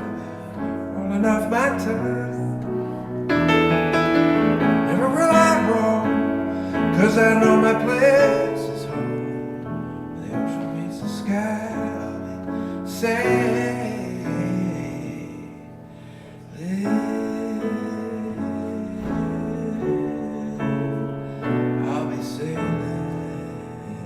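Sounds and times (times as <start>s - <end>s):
piano ballad chords: 0.0s - 24.0s.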